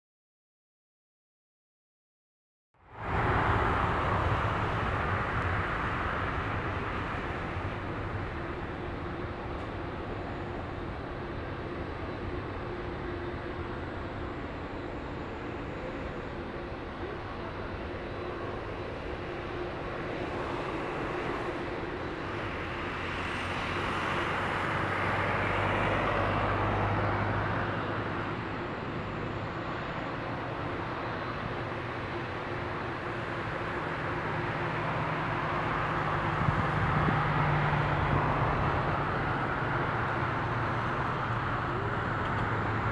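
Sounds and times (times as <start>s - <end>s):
jet engines at taxi power: 2.8s - 42.9s.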